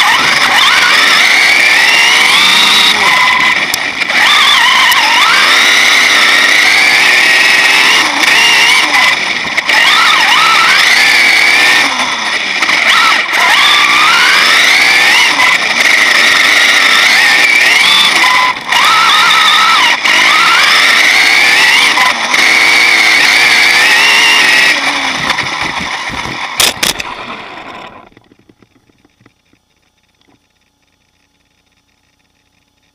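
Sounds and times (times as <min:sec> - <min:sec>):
rc truck electric motor whining: 0:00.0 - 0:28.6
tyres on gravel: 0:00.0 - 0:32.8.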